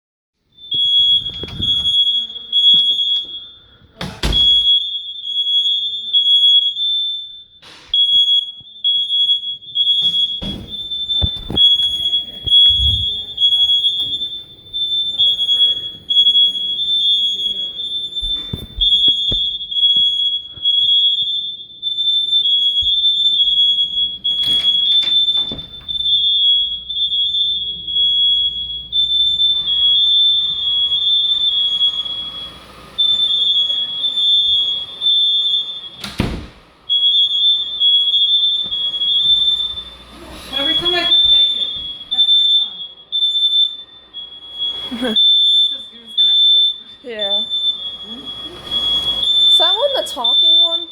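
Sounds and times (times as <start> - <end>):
smoke alarms shrill tone: 0.5 - 50.9.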